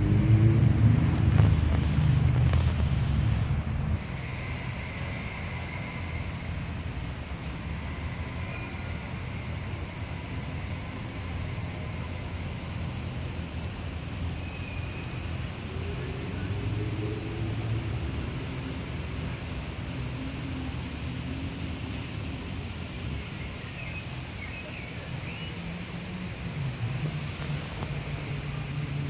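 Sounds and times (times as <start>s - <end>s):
distant voices: 0.0s - 29.0s
road traffic rumble: 0.0s - 29.0s.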